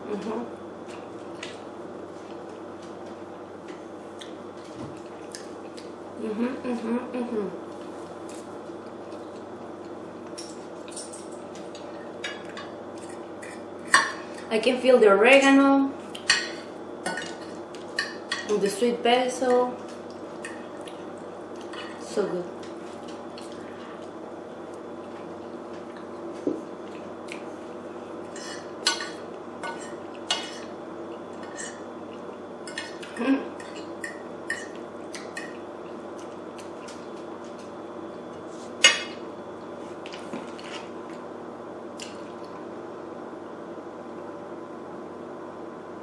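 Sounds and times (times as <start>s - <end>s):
background hum: 0.0s - 46.0s.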